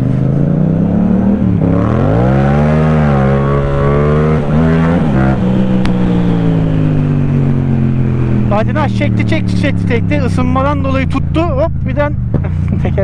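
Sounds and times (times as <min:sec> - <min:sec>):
motorcycle engine revving hard: 0:00.0 - 0:11.6.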